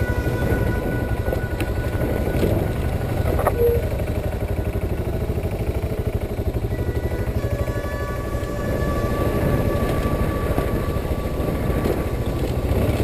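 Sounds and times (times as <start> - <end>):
motorcycle engine pulsing: 0.0 - 13.0.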